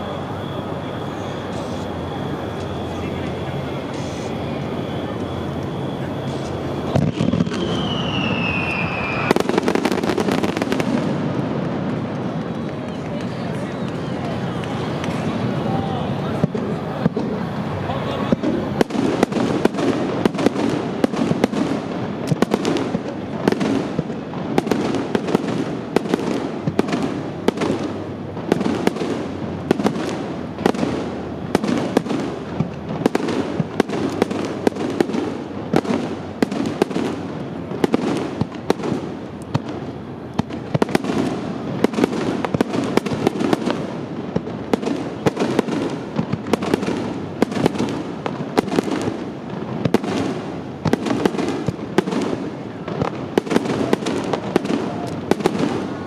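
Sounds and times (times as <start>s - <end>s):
rumble of explosions: 0.0s - 56.0s.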